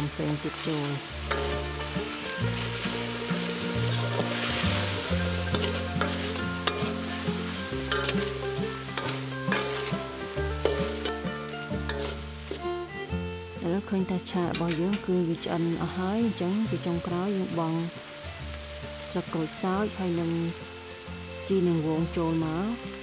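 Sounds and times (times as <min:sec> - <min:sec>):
spatula scraping wok: 0:00.0 - 0:23.0
stir-fry sizzling: 0:00.0 - 0:23.0.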